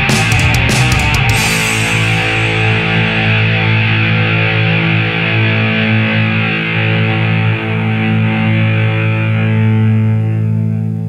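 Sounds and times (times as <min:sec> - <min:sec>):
distorted electric guitar chord: 0:00.0 - 0:11.0.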